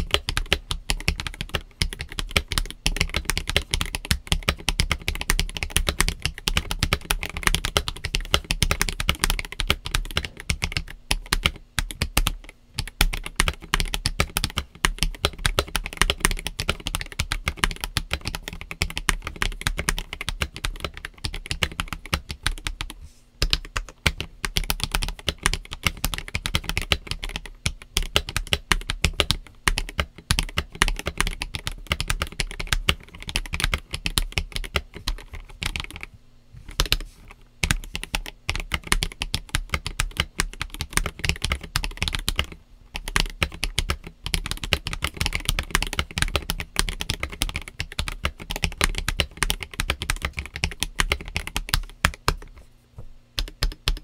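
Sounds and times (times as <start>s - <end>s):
mechanical keyboard typing: 0.0s - 36.1s, 36.7s - 52.6s, 53.4s - 54.0s.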